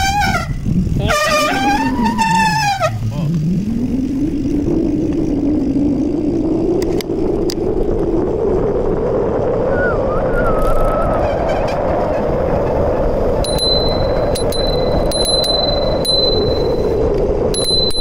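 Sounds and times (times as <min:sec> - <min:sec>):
bicycle tyre hum: 0:00.0 - 0:18.0
wind buffeting microphone: 0:00.0 - 0:18.0.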